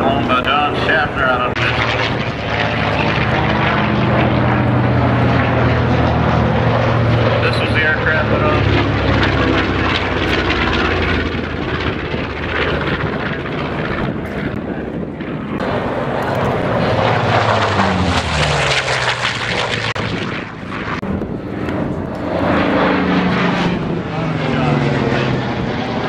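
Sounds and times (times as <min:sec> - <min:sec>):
propeller plane engines flying by: 0:00.0 - 0:26.0.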